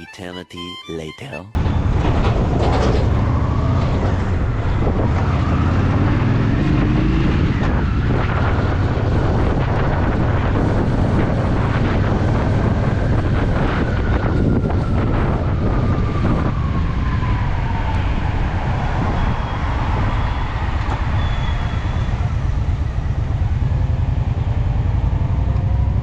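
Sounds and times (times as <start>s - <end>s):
wind buffeting microphone: 1.6s - 26.0s.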